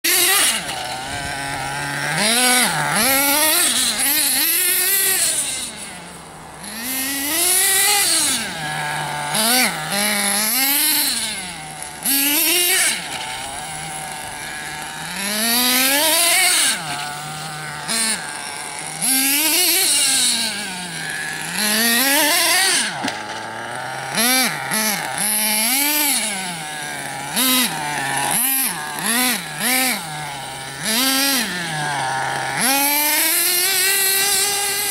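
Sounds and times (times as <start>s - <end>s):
radio-controlled car motor revving: 0.0s - 34.9s.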